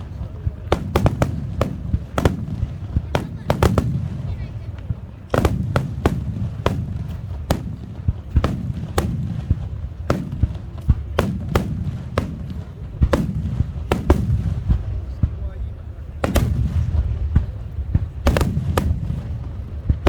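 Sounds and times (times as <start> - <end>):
fireworks booming: 0.0 - 20.0
rumble of echoing reports: 0.0 - 20.0.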